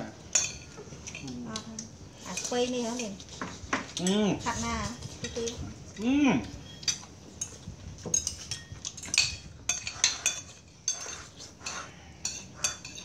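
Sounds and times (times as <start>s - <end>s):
spoons clinking on plates: 0.3s - 1.3s, 2.2s - 13.0s.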